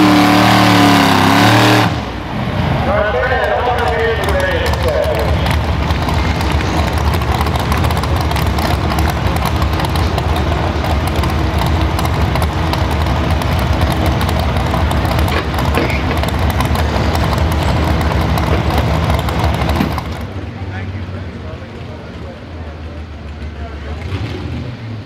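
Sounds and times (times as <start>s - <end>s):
truck engine idling loudly: 0.0s - 25.0s.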